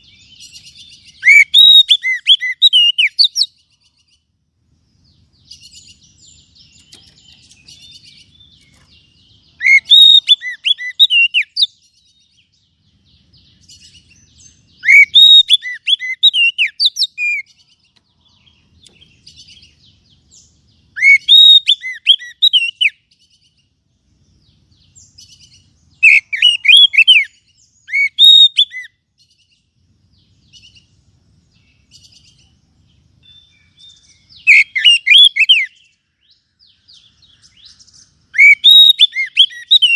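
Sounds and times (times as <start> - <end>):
bird whistling song: 0.0 - 4.2, 5.1 - 23.7, 24.7 - 32.6, 33.2 - 39.9.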